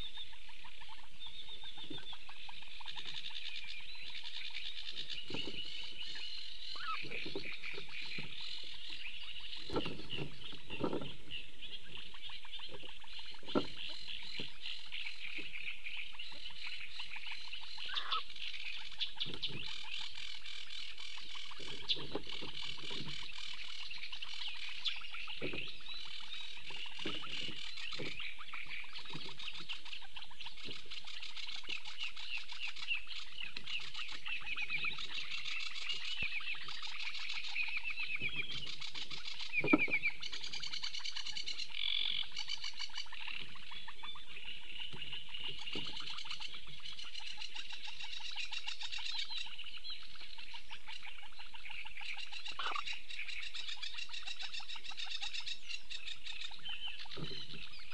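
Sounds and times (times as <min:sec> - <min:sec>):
frogs croaking: 0:00.0 - 0:57.9
small songbirds chirping: 0:00.0 - 0:57.9.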